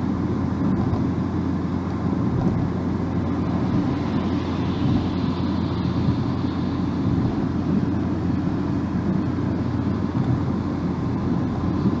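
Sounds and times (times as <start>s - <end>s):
car engine: 0.0s - 12.0s
tyre and road noise: 0.0s - 12.0s.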